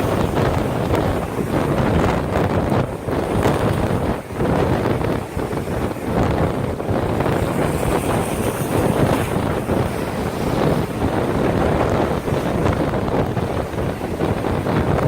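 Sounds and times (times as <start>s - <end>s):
storm surf: 0.0s - 15.0s
wind buffeting microphone: 0.0s - 15.0s.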